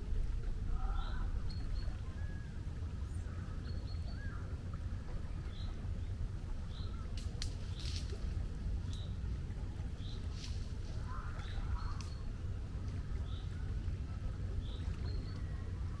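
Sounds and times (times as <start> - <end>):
sea rumbling: 0.0 - 16.0.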